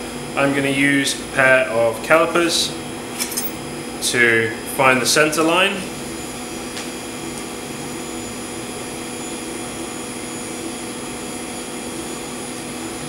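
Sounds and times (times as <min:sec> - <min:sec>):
workshop machinery drone: 0:00.0 - 0:13.0.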